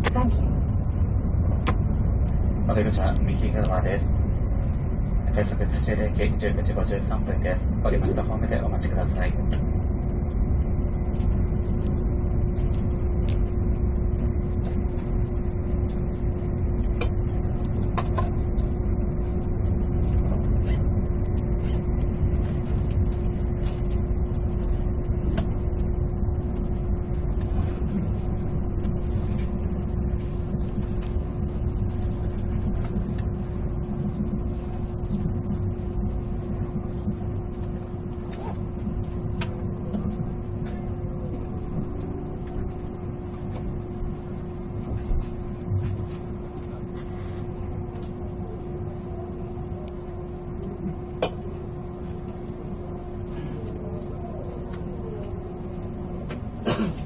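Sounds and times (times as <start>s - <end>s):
constant hum: 0.0s - 57.0s
train cabin rumble: 0.0s - 57.0s.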